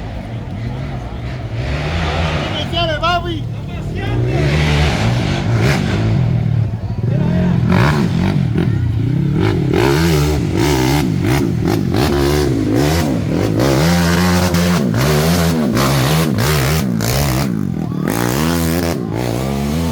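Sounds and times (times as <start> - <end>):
atv engine revving: 0.0 - 19.9.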